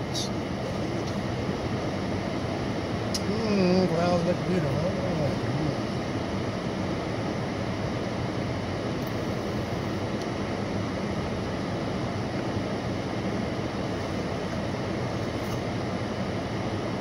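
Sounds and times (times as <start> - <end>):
car air-conditioning fan blowing: 0.0 - 17.0.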